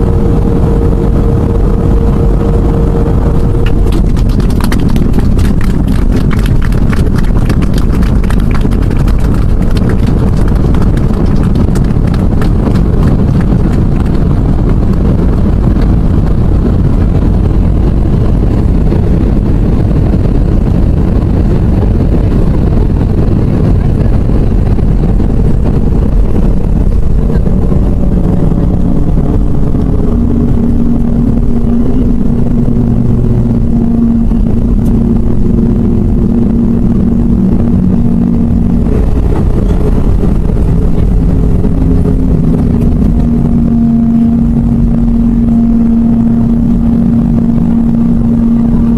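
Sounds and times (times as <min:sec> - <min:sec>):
engines and wheels rumbling: 0:00.0 - 0:48.9
steady engine tones: 0:00.0 - 0:48.9.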